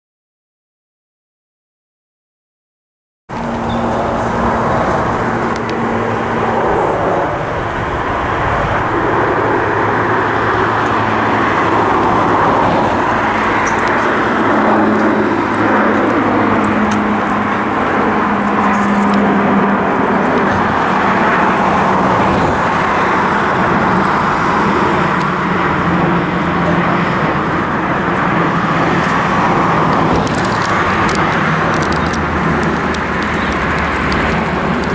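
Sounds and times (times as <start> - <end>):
road traffic: 3.3 - 34.9.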